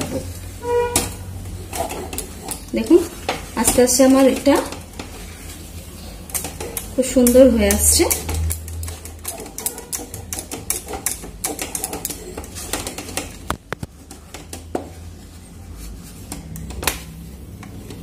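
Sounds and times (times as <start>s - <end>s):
utensil scraping a pan: 0.0s - 16.5s.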